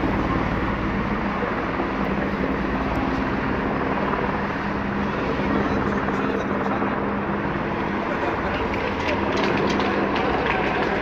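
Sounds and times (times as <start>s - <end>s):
helicopter drone overhead: 0.0s - 11.0s.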